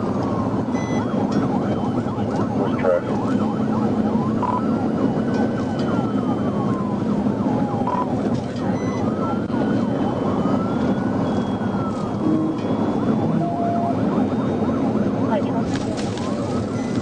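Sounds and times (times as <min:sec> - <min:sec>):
engine and road noise: 0:00.0 - 0:17.0
police siren wailing: 0:00.0 - 0:17.0.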